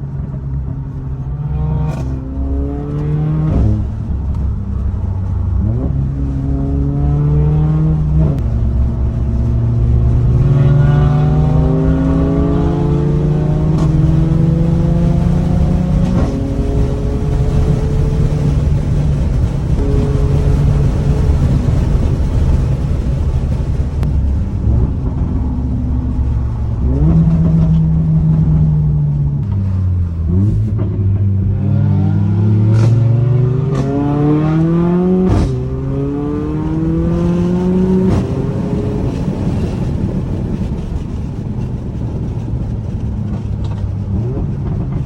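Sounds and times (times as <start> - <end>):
car engine accelerating: 0.0 - 45.0
exhaust cracks: 0.0 - 45.0.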